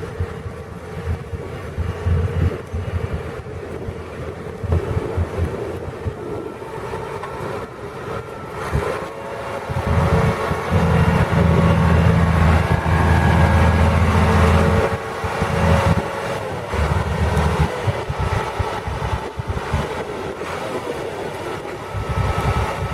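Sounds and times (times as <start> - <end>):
tractor diesel engine rumble: 0.0 - 22.9.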